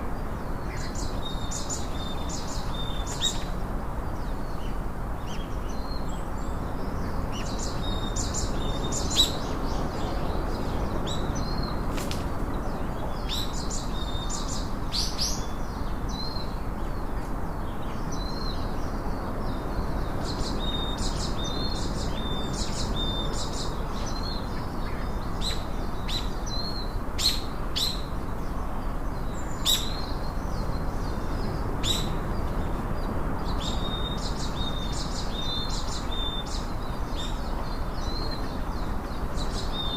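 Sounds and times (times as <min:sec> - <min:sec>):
steady background hiss: 0:00.0 - 0:39.9
small birds chirping: 0:00.2 - 0:39.9.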